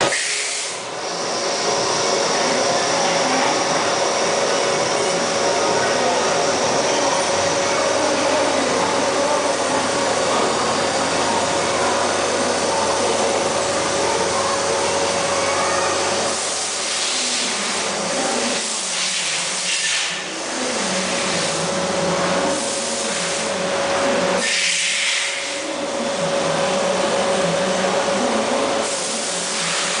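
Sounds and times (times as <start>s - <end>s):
drilling machine drone: 0.0s - 30.0s.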